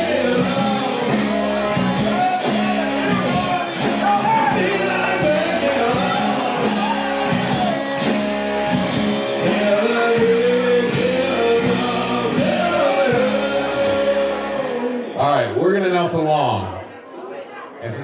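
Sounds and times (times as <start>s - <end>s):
singer holding long notes: 0.0s - 15.2s
steady bass line: 0.0s - 15.2s.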